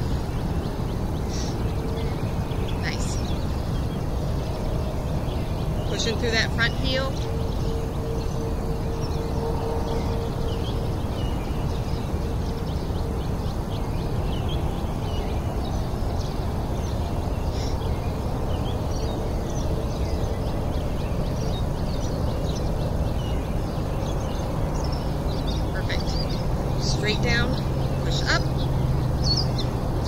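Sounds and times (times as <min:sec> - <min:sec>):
low rumble of background noise: 0:00.0 - 0:30.0
songbirds chirping and calling: 0:00.0 - 0:30.0.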